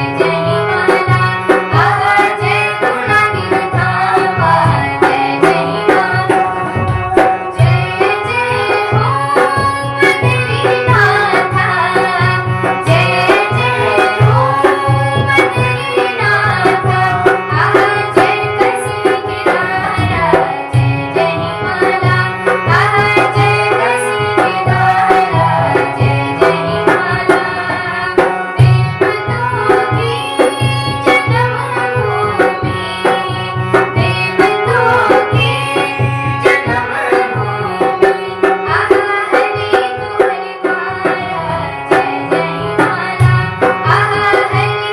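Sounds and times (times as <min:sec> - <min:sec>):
devotional song: 0:00.0 - 0:44.9
hand drum rhythm: 0:00.0 - 0:44.9.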